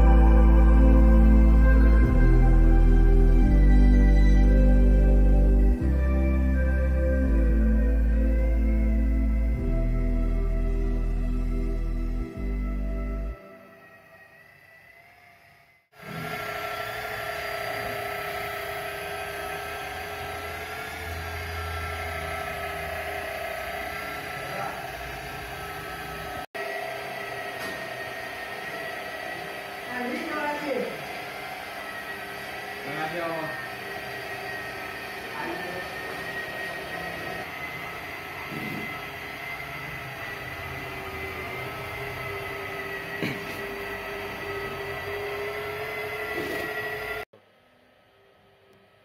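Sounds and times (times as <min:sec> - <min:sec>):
electric polisher motor whine: 0:00.0 - 0:47.3.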